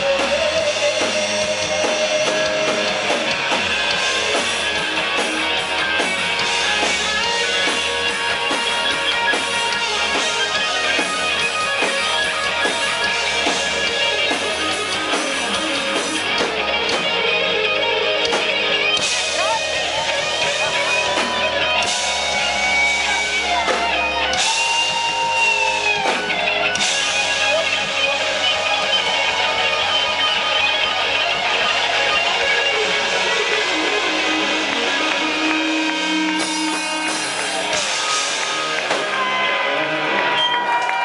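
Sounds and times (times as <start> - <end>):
electric guitar lead: 0.0 - 41.0
rock band playing live: 0.0 - 41.0.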